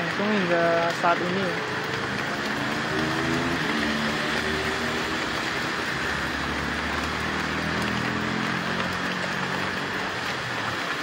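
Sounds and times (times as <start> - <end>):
heavy rain on wet road: 0.0 - 11.0
motorcycle engines passing: 0.8 - 11.0.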